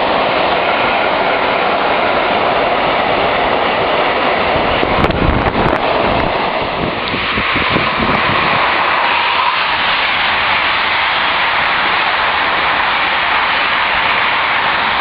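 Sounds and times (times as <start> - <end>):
freight train wheels rushing on rail: 0.0 - 15.0.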